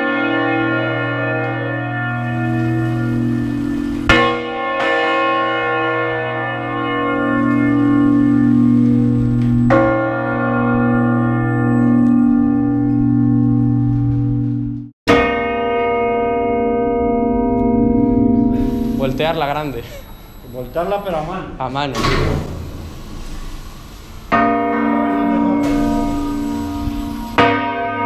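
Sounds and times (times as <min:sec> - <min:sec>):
church bell ringing: 0:00.0 - 0:21.9, 0:22.6 - 0:28.0.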